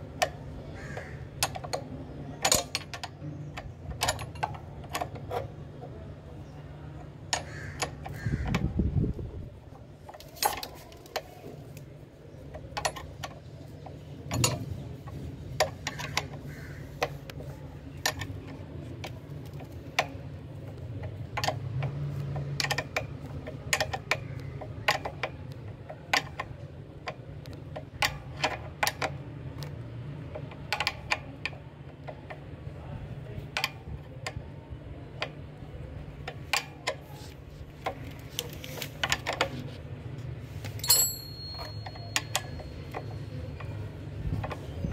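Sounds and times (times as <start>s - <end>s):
spanner clicking on bolt: 0.1s - 8.9s, 10.1s - 32.5s, 33.2s - 39.7s, 40.6s - 44.9s.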